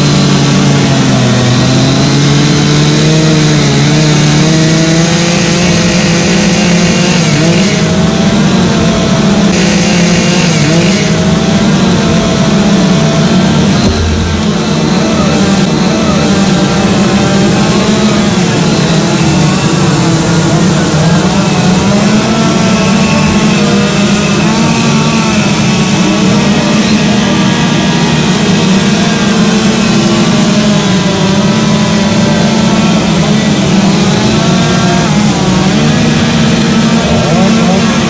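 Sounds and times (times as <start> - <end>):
chainsaws carving wood: 0.0 - 38.0.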